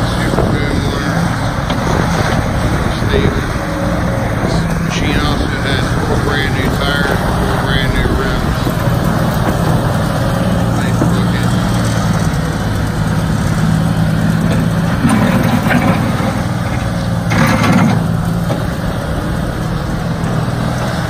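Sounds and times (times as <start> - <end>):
diesel engine running: 0.0 - 21.0
machine driving on gravel: 0.0 - 21.0.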